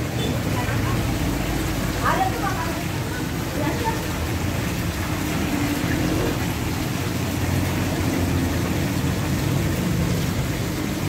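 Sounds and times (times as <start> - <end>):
waterfall splashing into tank: 0.0 - 11.0.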